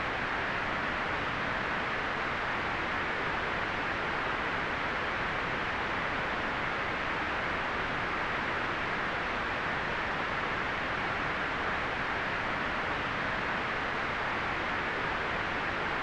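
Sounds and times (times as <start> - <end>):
steady white noise hiss: 0.0 - 16.0.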